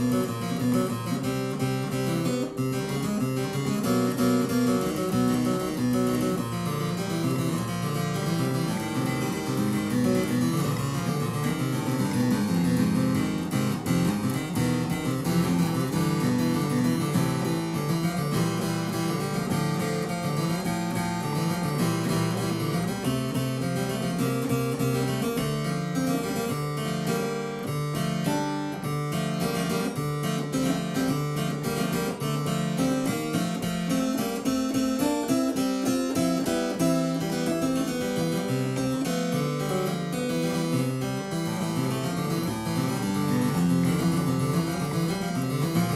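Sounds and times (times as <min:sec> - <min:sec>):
harpsichord playing: 0:00.0 - 0:45.9.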